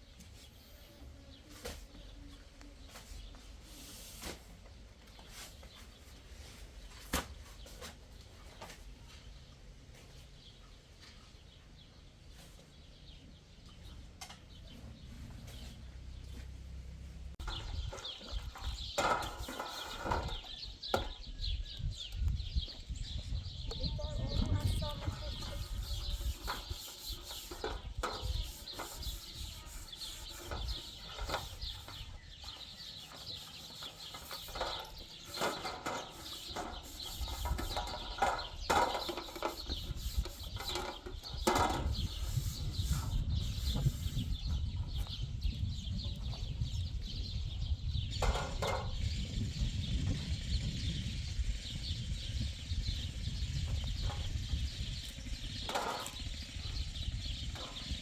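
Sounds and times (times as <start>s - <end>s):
livestock and poultry: 7.6s - 58.0s.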